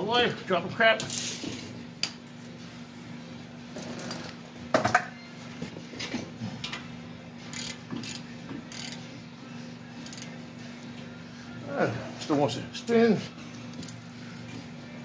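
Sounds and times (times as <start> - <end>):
steady low hum: 1.3 - 15.0.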